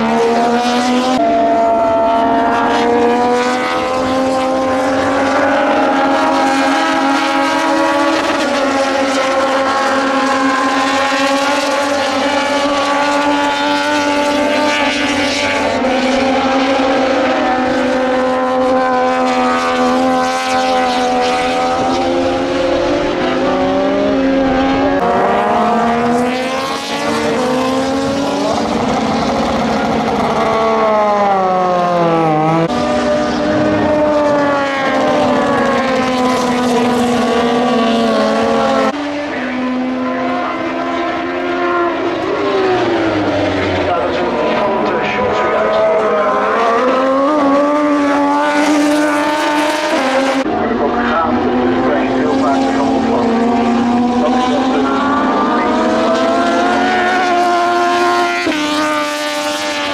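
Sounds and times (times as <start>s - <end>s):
racing motorcycles at high revs: 0.0s - 59.9s.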